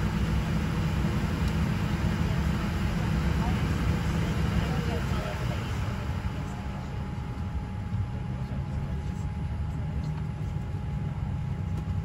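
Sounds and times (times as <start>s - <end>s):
low rumble of aircraft engines: 0.0s - 12.0s.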